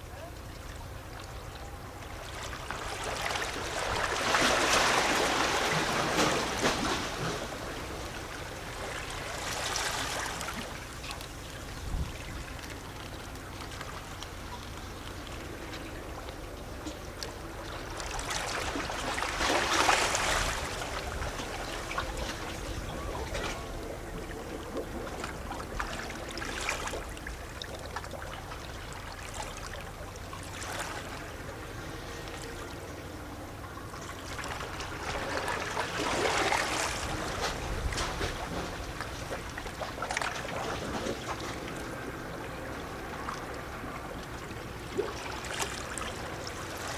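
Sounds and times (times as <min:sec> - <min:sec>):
water gurgling and trickling: 0:00.4 - 0:46.9
waves lapping against rocks: 0:00.6 - 0:46.9.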